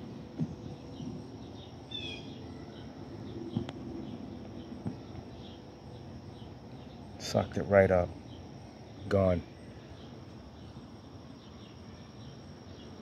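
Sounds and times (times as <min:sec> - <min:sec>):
insects chirping: 0:00.0 - 0:13.0
bird chirp: 0:00.4 - 0:13.0.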